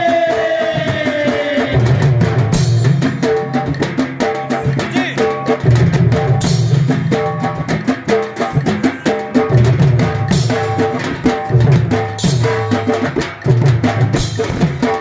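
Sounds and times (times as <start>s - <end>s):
hand drums rhythm: 0.0s - 15.0s.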